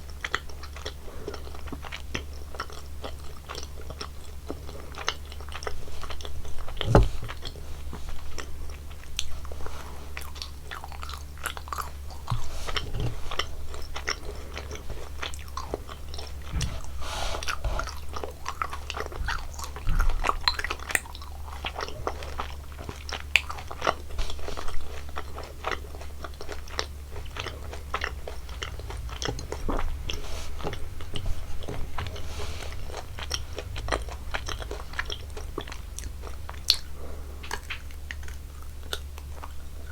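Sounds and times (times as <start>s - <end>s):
person chewing and biting sweets: 0.0s - 39.9s.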